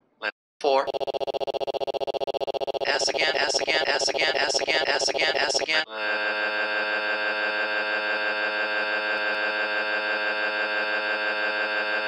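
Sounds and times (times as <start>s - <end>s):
loud electronic buzz: 0.8s - 12.0s.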